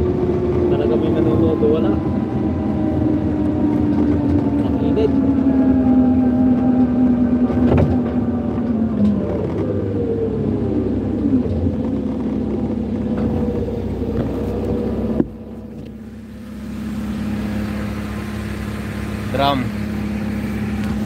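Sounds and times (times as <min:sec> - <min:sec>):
forklift engine running: 0:00.0 - 0:21.0.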